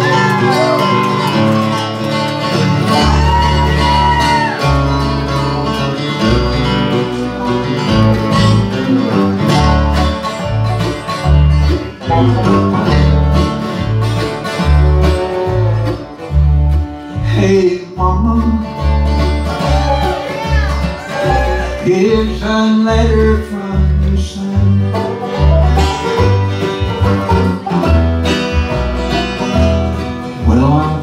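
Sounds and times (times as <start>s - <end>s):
fiddle: 0.0s - 30.8s
strummed acoustic guitar: 0.0s - 31.0s
upright bass: 0.0s - 31.0s.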